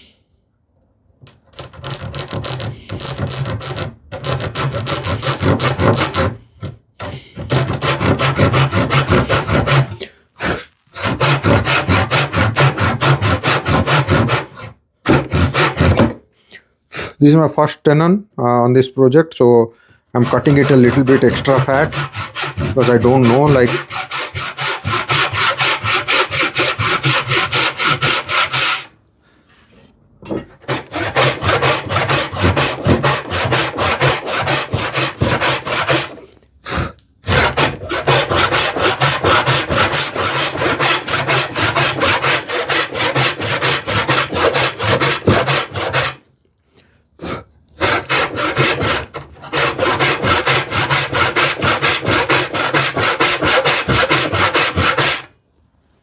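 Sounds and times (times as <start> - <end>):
hand saw cutting wood: 1.6 - 16.2, 20.2 - 28.9, 30.4 - 36.3, 37.2 - 46.2, 47.2 - 55.3.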